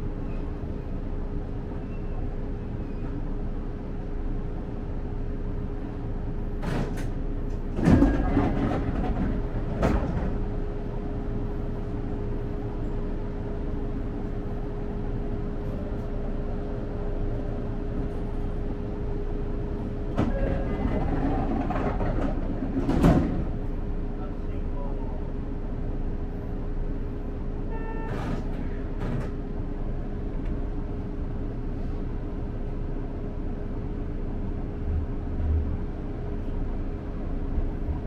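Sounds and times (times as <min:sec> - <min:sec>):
train running noise: 0:00.0 - 0:38.0.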